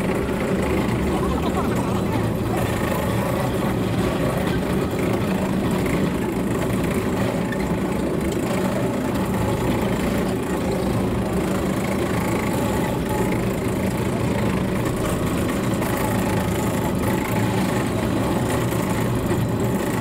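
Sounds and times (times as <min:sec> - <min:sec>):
monorail car engine running: 0:00.0 - 0:20.0.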